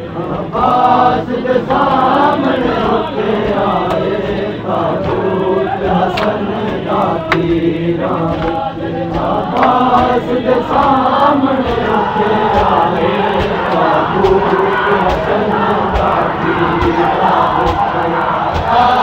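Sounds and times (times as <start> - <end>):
crowd of men chanting: 0.0 - 19.0.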